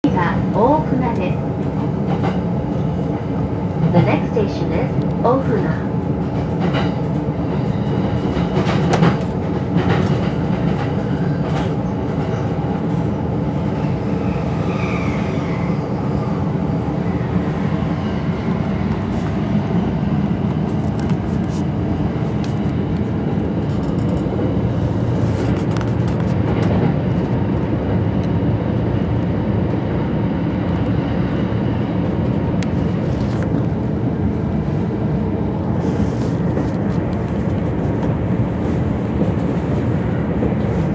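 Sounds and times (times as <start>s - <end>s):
train rolling and motor noise: 0.0s - 40.9s.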